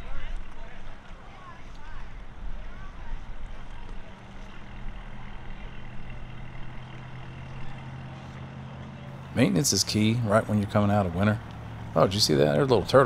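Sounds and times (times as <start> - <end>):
distant engine idling: 0.0 - 13.0.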